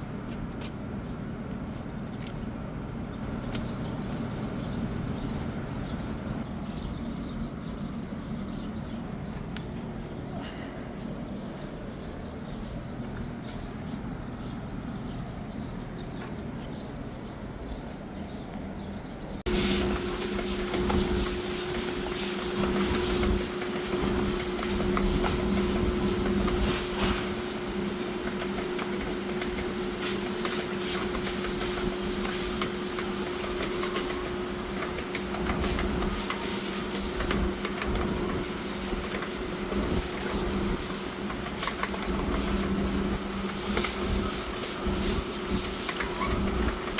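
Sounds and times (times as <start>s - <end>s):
machine humming and hissing: 0.0s - 16.6s, 19.5s - 46.9s.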